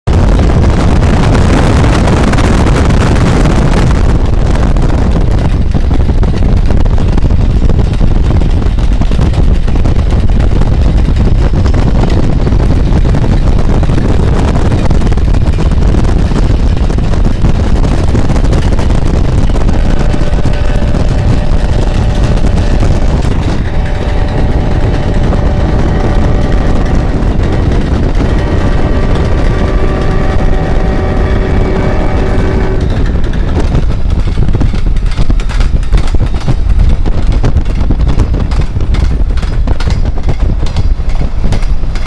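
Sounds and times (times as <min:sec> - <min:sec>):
wind and road noise in car: 0:00.0 - 0:42.0.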